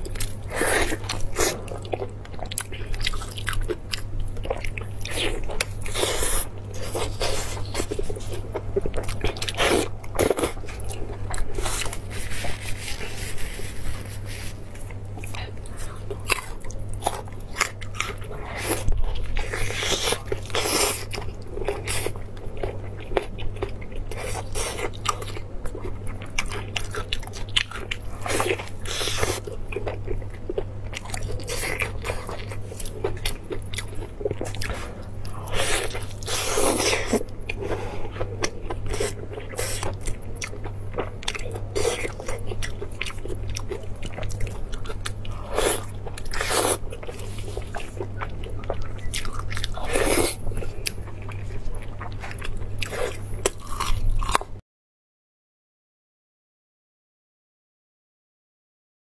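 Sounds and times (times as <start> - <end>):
steady low hum: 0.0 - 54.6.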